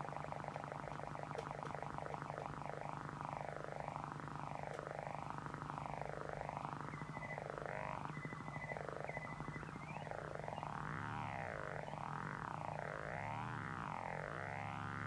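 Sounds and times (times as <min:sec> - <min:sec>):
electric guitar droning with effects: 0:00.0 - 0:15.0
steady low hum: 0:00.0 - 0:15.0.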